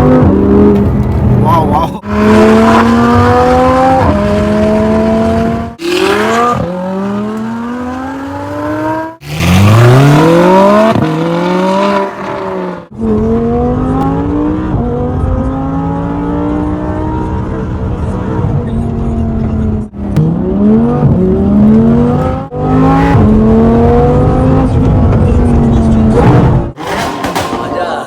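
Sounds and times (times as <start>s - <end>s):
sports car engine revving: 2.0s - 26.8s.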